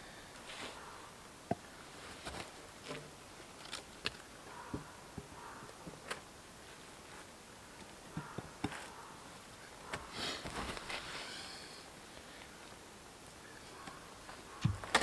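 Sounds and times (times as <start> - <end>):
branches rustling and crackling: 0.3 - 15.0.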